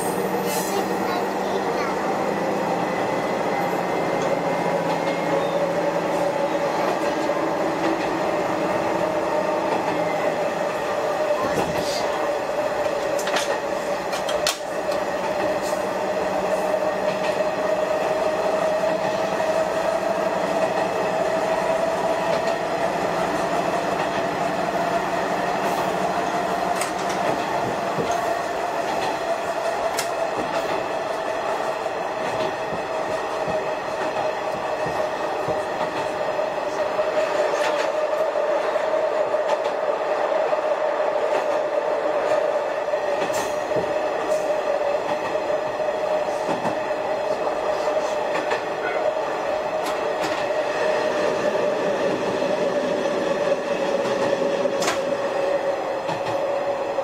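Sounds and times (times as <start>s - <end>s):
diesel railcar whine: 0.0s - 57.0s.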